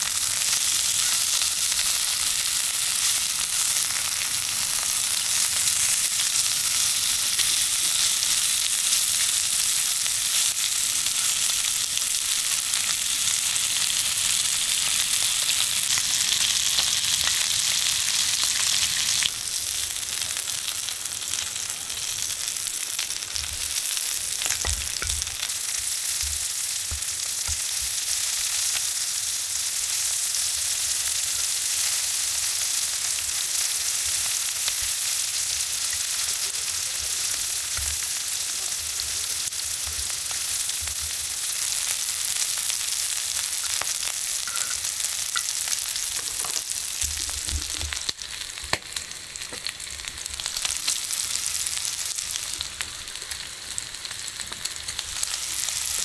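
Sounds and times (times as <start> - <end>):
meat sizzling: 0.0 - 56.0.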